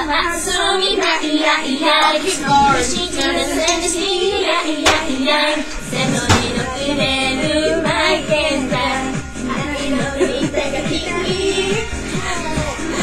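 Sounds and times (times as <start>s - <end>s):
pop song with high vocals: 0.0s - 13.0s.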